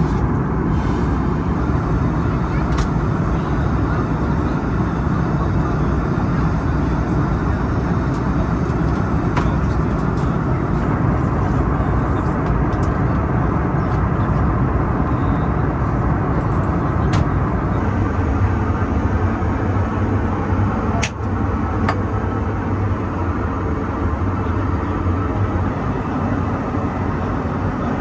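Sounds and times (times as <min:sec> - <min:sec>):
airplane cabin noise: 0:00.0 - 0:28.0.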